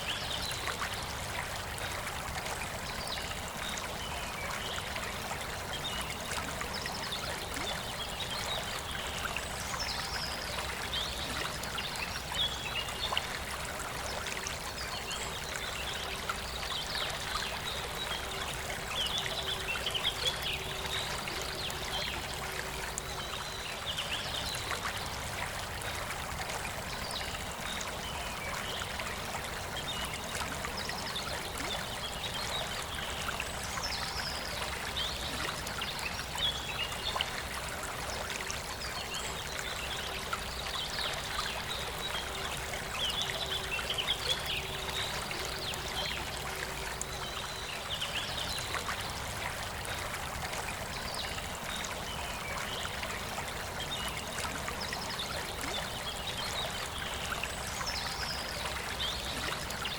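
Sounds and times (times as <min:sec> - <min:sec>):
river running: 0:00.0 - 0:59.9.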